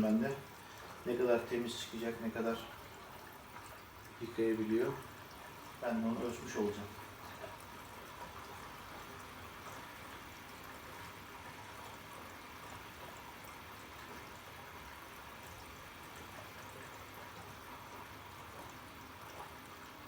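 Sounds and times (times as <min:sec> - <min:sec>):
water hissing into washing machine: 0:00.0 - 0:20.0.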